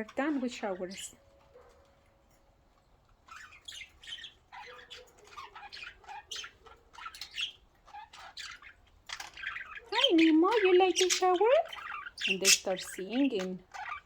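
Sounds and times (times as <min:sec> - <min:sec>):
budgerigars chirping and squawking: 0:00.1 - 0:01.8, 0:03.1 - 0:14.0.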